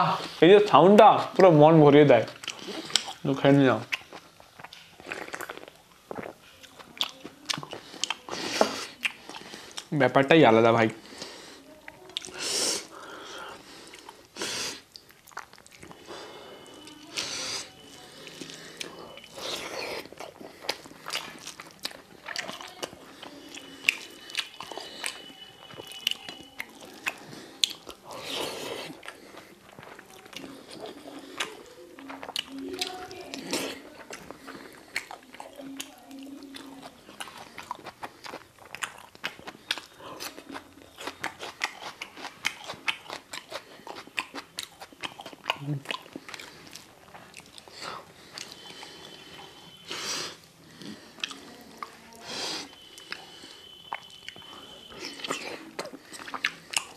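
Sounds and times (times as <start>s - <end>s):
person chewing: 1.2s - 10.0s, 11.0s - 56.9s.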